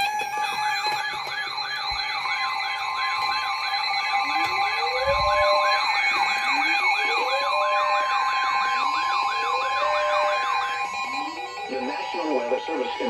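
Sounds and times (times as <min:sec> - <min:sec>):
fast yelping siren: 0:00.0 - 0:13.0
slow wailing siren: 0:00.0 - 0:13.0
steady alarm tone: 0:00.0 - 0:13.0.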